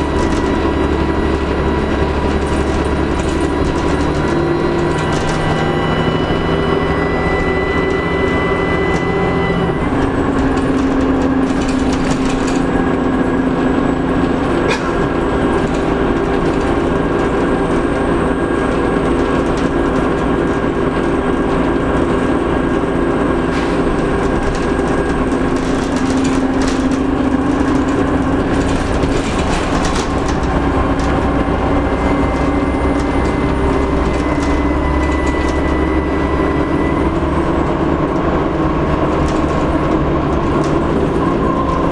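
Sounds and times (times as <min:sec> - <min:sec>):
rattles and clicks: 0:00.0 - 0:05.7, 0:07.7 - 0:41.9
bus engine running: 0:00.0 - 0:41.9.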